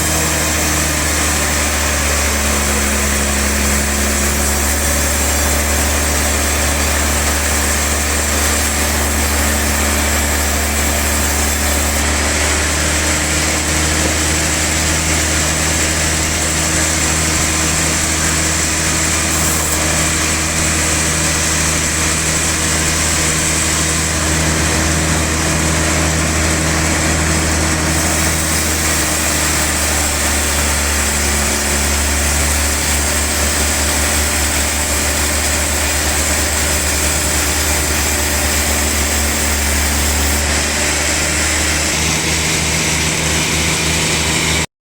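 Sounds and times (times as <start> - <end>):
sawmill machinery humming: 0.0 - 44.7.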